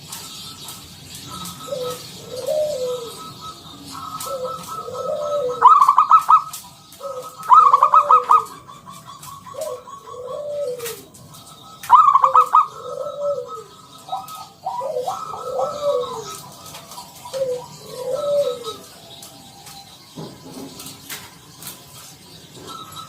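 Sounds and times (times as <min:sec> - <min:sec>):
dove cooing: 0:00.0 - 0:23.0.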